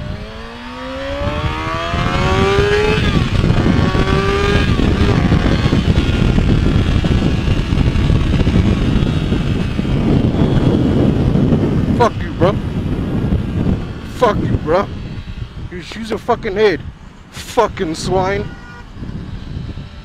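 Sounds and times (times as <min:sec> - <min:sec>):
motorcycle engine accelerating: 0:00.0 - 0:18.3, 0:18.9 - 0:20.0
wind rush on microphone: 0:00.0 - 0:20.0.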